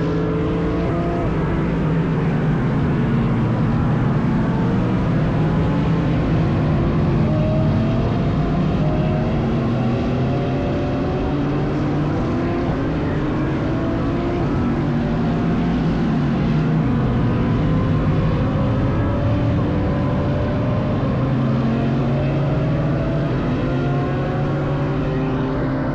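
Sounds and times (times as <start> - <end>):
constant low rumble: 0.0 - 25.9
race car engines accelerating: 0.0 - 25.9.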